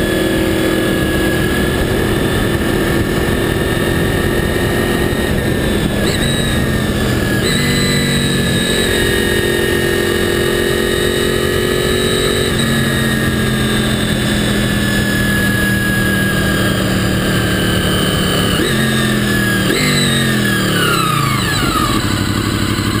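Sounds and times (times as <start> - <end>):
motorcycle engine running: 0.0 - 23.0
wind and road rush: 0.0 - 23.0.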